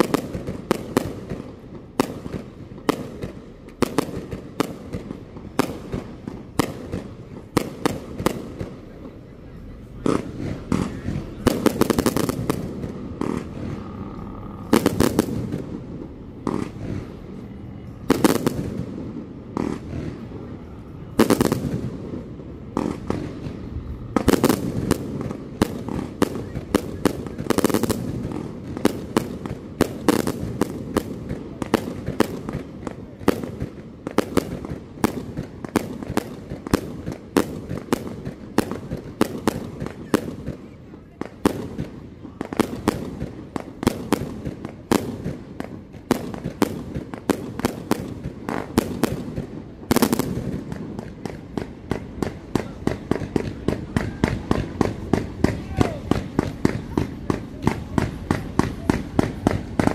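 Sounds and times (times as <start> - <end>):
rapid firework bangs: 0.0 - 17.4, 18.1 - 20.5, 21.2 - 59.9.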